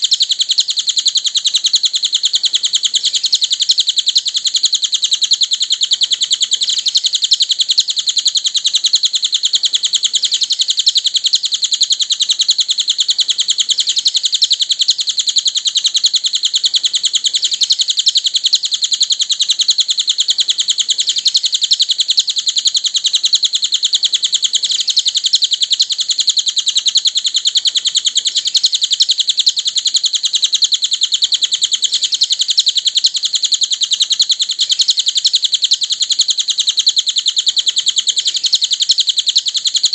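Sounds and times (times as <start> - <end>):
rapid high bird chirps: 0.0 - 39.9.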